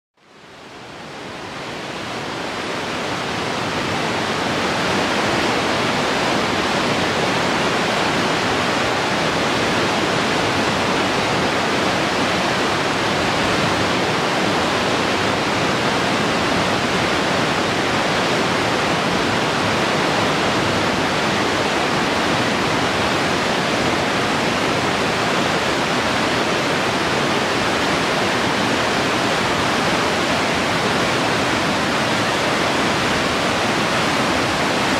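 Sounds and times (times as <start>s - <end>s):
river rushing through gorge: 0.2s - 34.9s.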